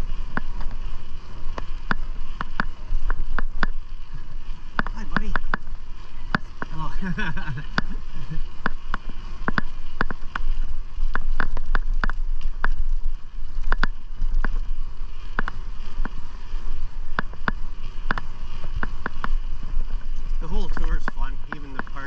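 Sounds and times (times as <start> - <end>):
bicycle clicks and rattles: 0.0 - 22.0
wind and road noise rumble: 0.0 - 22.0.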